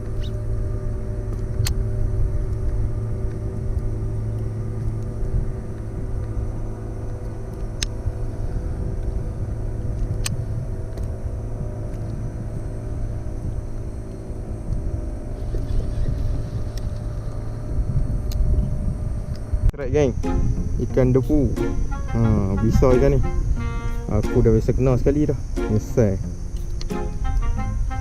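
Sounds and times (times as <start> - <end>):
low motor-like rumble: 0.0 - 28.0.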